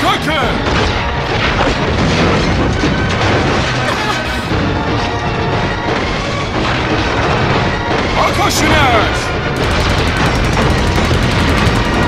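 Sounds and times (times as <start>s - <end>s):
action film music: 0.0s - 12.0s
booms and crashing impacts: 0.3s - 12.0s.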